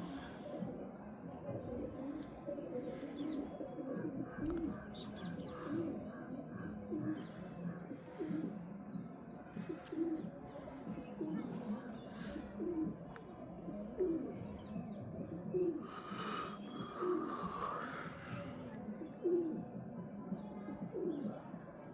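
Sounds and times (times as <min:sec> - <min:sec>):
pigeons cooing: 0:00.0 - 0:21.5.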